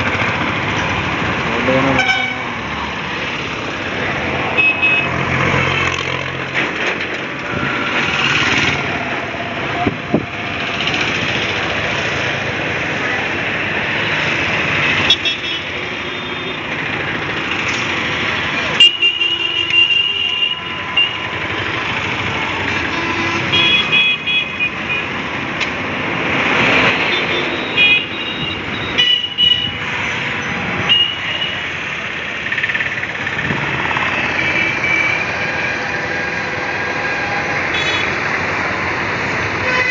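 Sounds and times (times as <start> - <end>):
engine and road noise: 0.0 - 39.9.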